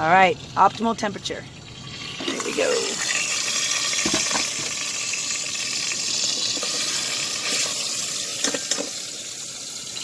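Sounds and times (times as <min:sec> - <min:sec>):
meat sizzling in hot fat: 0:00.0 - 0:10.0.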